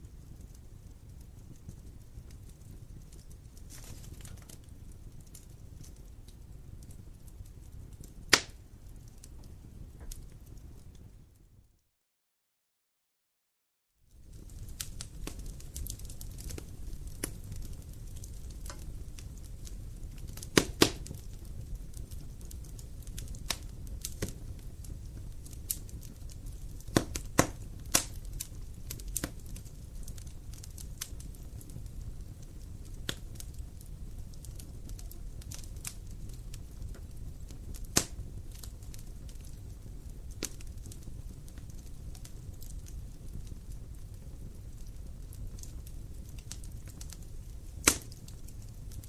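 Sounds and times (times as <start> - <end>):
burning wood popping: 0.0 - 11.1, 14.1 - 49.0
wood fire crackling: 0.0 - 11.8, 14.0 - 49.0.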